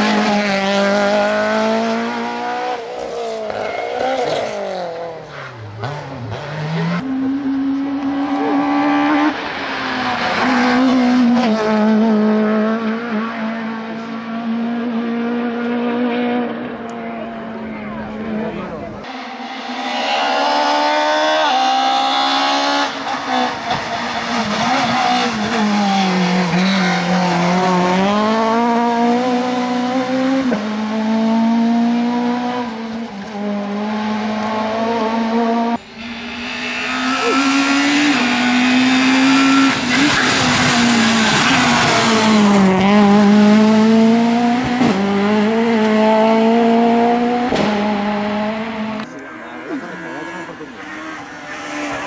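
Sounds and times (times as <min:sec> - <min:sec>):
rally car engines accelerating: 0:00.0 - 0:52.0.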